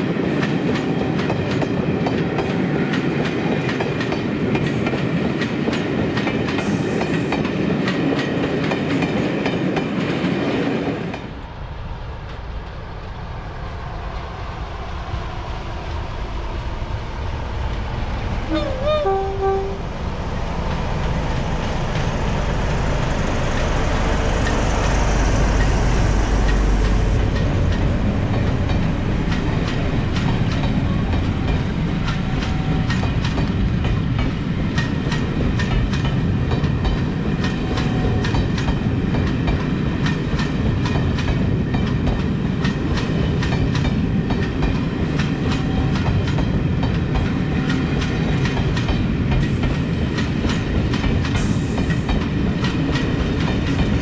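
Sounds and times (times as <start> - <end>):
train wheels clicking over rail joints: 0.0 - 11.4, 20.7 - 54.0
diesel locomotive engine rumbling: 0.0 - 54.0.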